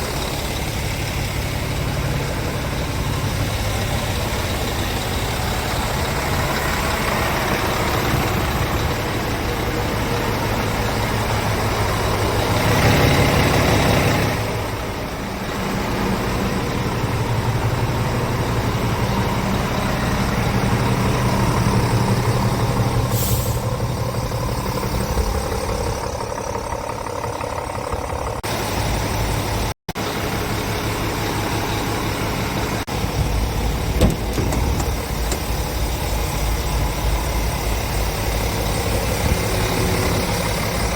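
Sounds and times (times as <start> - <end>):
diesel truck idling: 0.0 - 40.9.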